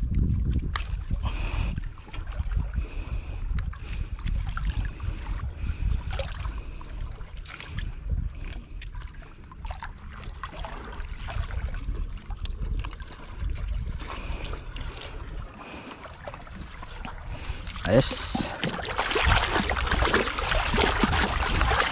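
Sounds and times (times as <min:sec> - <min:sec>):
water lapping and splashing: 0:00.0 - 0:21.9
wind buffeting microphone: 0:00.0 - 0:21.9.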